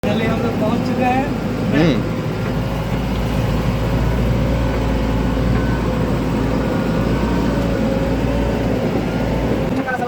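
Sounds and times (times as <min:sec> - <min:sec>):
diesel machinery rumbling: 0:00.0 - 0:10.0.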